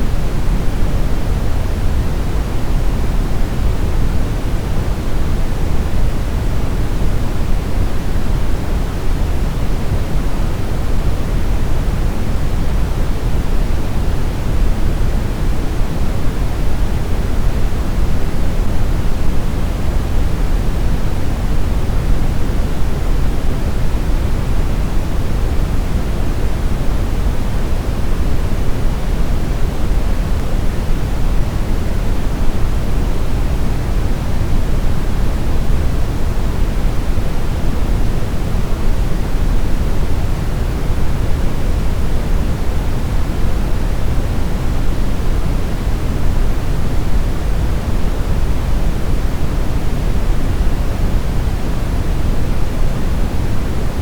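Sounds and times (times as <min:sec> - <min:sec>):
brown noise rumbling hiss: 0:00.0 - 0:54.0.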